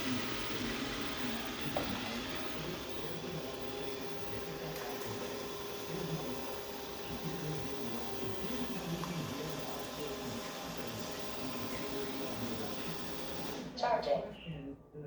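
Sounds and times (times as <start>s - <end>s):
robot vacuum whining and rumbling: 0.0s - 13.7s.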